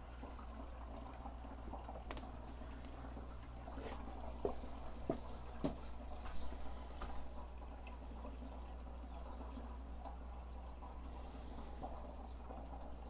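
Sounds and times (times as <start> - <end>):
pump humming: 0.0 - 13.0
water running through pump: 0.0 - 13.0.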